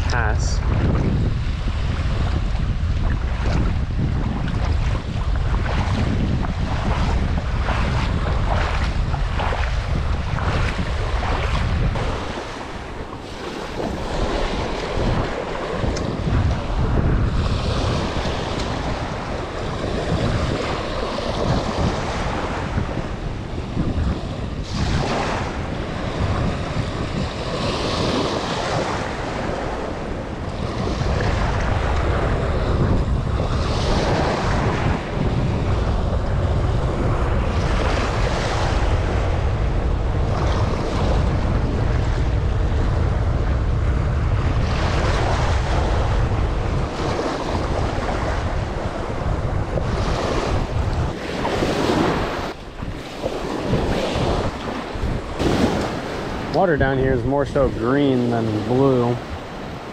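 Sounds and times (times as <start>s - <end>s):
surf waves breaking on sand: 0.0s - 59.9s
wind rumbling on microphone: 0.0s - 59.9s.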